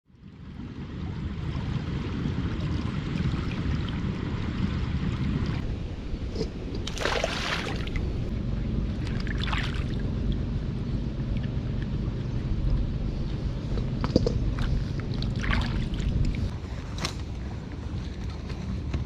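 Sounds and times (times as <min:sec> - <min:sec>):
steady low rumble: 0:00.1 - 0:19.0.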